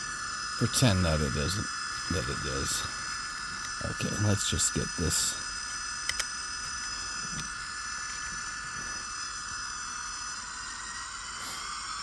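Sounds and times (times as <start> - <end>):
model train whirring: 0.0 - 12.0.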